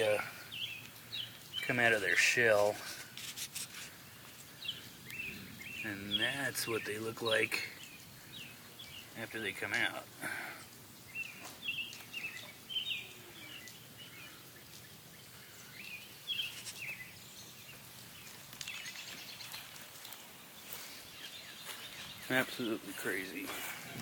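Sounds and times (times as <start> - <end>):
birds chirping: 0.0 - 24.0
outdoor background hiss: 0.0 - 24.0.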